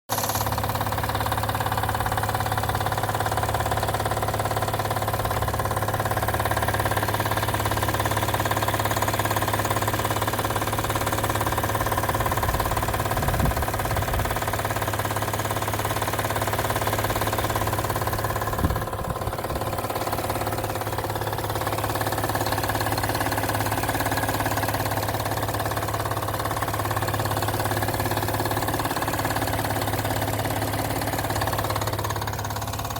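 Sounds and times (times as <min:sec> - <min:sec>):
car engine idling loudly: 0:00.1 - 0:32.9.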